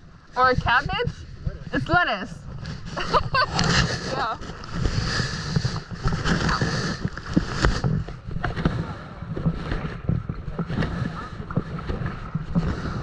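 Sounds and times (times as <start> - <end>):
water lapping against a kayak: 0.0 - 13.0
wind buffeting microphone: 0.0 - 13.0.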